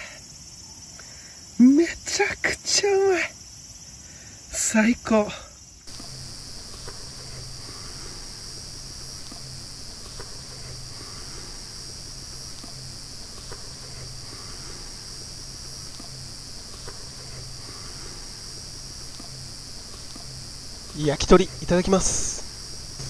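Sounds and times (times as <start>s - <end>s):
insect chorus buzzing: 0.0s - 23.0s
low steady hum: 0.0s - 23.0s.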